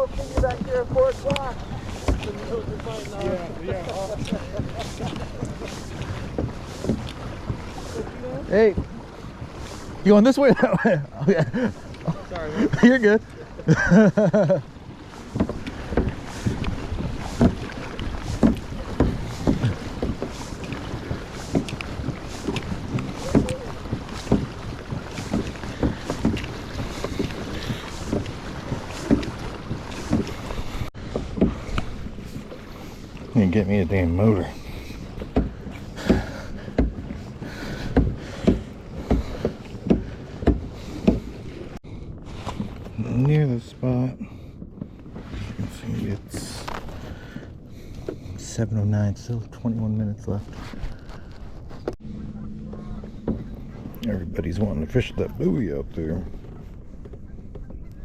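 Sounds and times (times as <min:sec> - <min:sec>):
kayak paddle strokes in water: 0:00.0 - 0:58.0.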